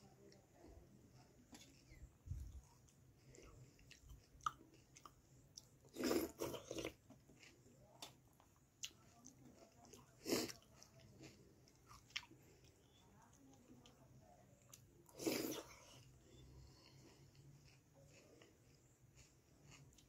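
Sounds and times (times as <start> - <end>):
person chewing food: 1.5 - 14.0, 14.6 - 20.0.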